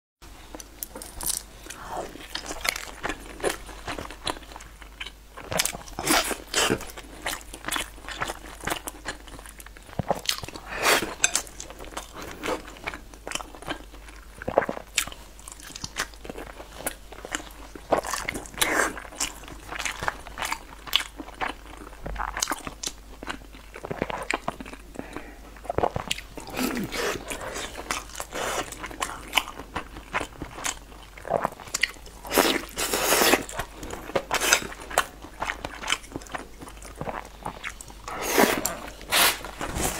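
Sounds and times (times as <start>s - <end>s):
person chewing food: 0.4s - 39.9s.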